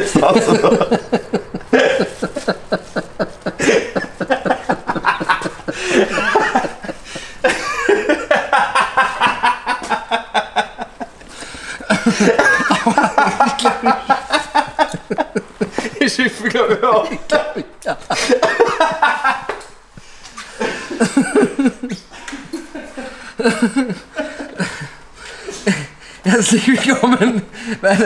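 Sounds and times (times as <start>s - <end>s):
people laughing hard: 0.0s - 19.8s, 20.4s - 28.0s.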